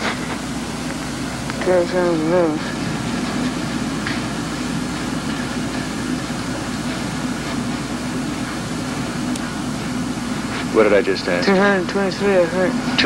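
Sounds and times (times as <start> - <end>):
constant low hum: 0.0 - 13.0
film soundtrack hiss: 0.0 - 13.0.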